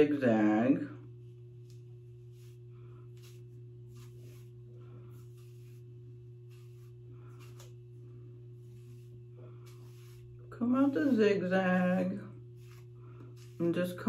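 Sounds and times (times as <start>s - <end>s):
steady low hum: 0.0s - 14.0s
comb swishing through wig: 1.5s - 14.0s.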